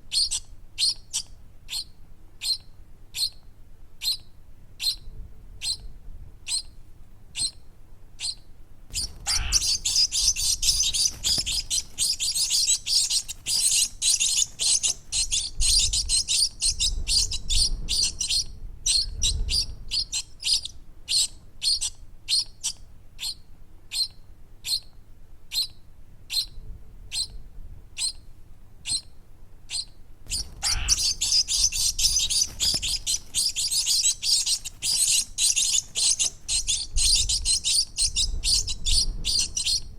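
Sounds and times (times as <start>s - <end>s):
baby bird chirping: 0.1s - 3.4s, 4.0s - 4.2s, 4.8s - 5.0s, 5.6s - 5.9s, 6.5s - 6.7s, 7.4s - 7.6s, 8.2s - 24.9s, 25.5s - 25.7s, 26.3s - 26.5s, 27.1s - 27.4s, 28.0s - 28.2s, 28.8s - 29.1s, 29.7s - 39.9s.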